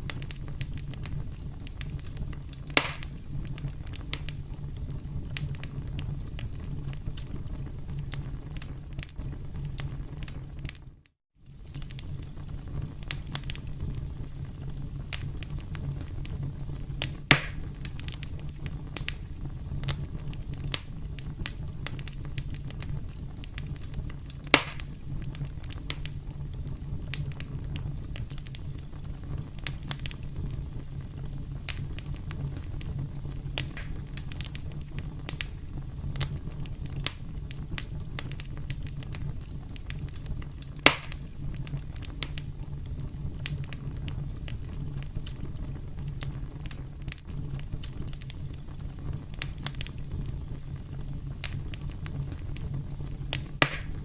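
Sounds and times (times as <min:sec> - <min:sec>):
campfire crackling: 0:00.0 - 0:54.0
fire popping: 0:00.0 - 0:54.0.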